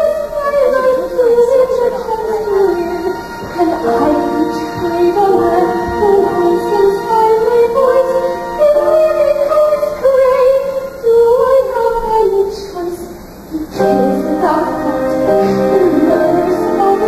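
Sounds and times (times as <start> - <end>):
musical accompaniment: 0.0 - 12.2, 13.4 - 17.0
woman singing: 0.0 - 17.0.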